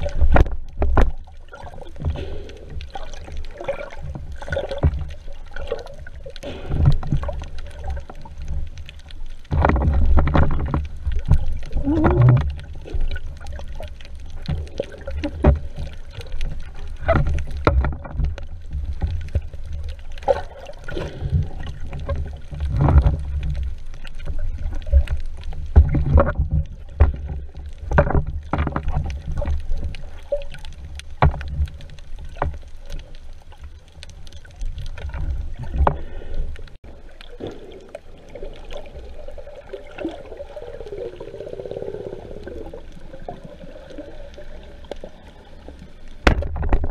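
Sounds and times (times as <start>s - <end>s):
underwater churning rumble: 0.0s - 46.9s.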